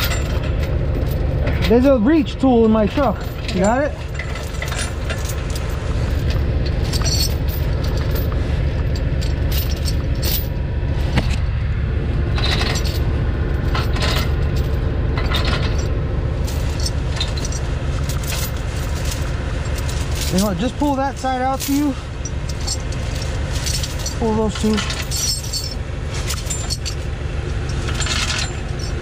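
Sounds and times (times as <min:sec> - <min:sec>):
tow chain clinking and scraping: 0:00.0 - 0:11.5, 0:12.2 - 0:29.0
vehicle engine idling: 0:00.0 - 0:29.0.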